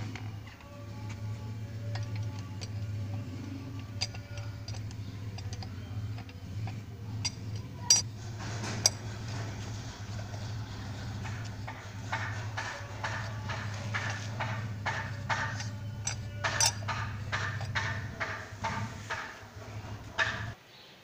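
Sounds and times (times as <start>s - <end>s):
low steady hum: 0.0s - 20.6s
metal clicks and clinks: 0.0s - 20.6s.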